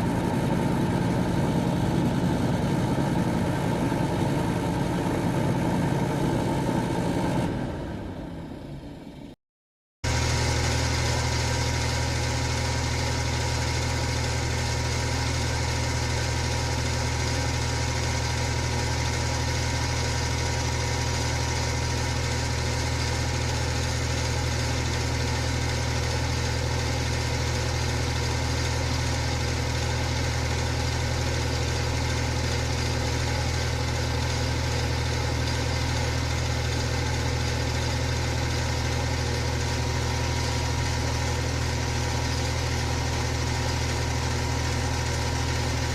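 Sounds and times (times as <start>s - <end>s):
electric fan running: 0.0s - 9.3s, 10.1s - 45.9s.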